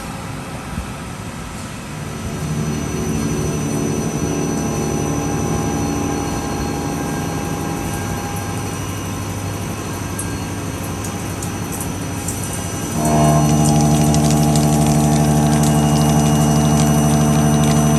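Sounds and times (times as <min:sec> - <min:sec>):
loud pitched hum: 0:00.0 - 0:17.9
milling machine running: 0:01.9 - 0:17.9.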